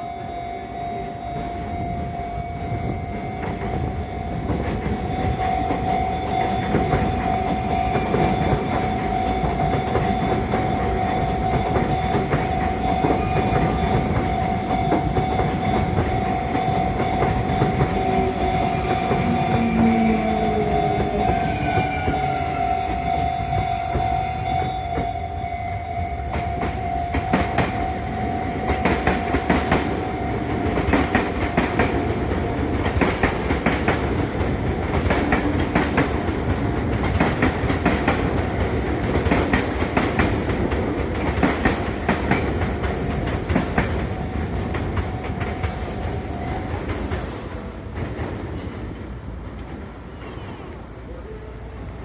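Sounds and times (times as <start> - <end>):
crossing warning bell ringing: 0.0 - 49.0
train rumble: 0.0 - 52.0
wheels clacking over rail joints: 4.3 - 25.2, 26.2 - 50.6.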